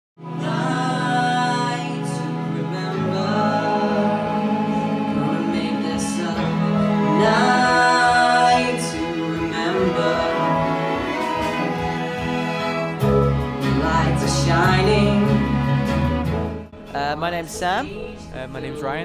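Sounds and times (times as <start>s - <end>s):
person singing: 0.2s - 16.2s
orchestral bowed strings: 0.2s - 19.0s.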